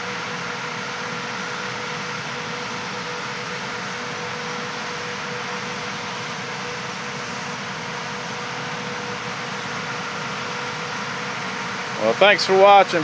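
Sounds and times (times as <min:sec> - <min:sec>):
tractor engine humming: 0:02.3 - 0:13.0.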